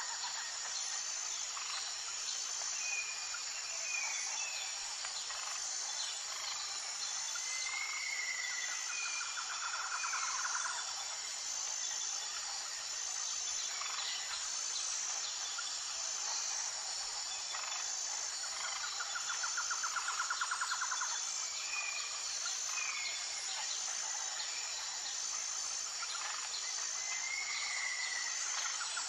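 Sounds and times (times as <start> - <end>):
insect drone: 0.0 - 29.0.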